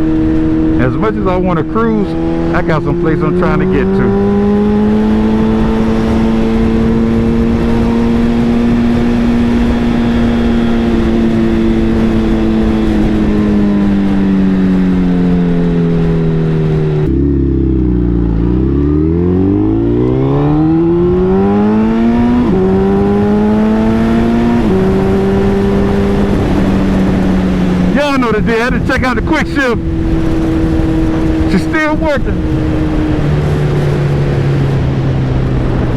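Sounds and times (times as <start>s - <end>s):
motorcycle engine: 0.0s - 35.9s
wind on microphone: 3.9s - 17.1s, 19.3s - 35.9s.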